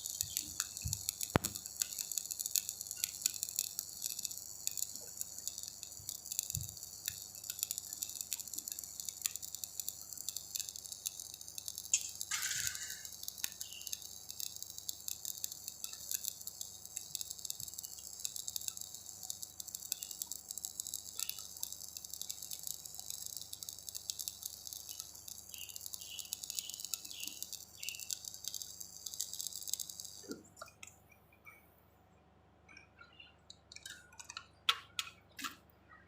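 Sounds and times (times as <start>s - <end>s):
welding arc crackle and sizzle: 0.0s - 31.6s, 33.4s - 35.7s.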